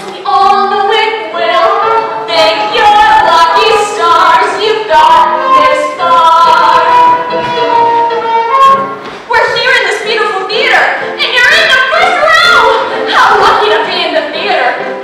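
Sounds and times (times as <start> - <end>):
children's chorus singing: 0.0 - 14.8.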